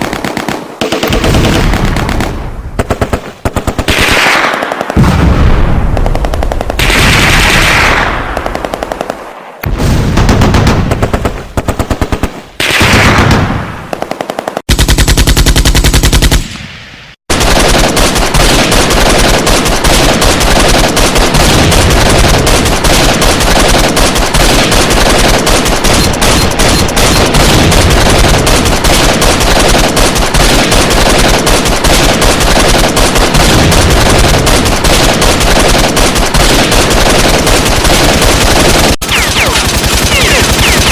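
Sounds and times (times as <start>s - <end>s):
machine-gun fire: 0.0s - 40.9s.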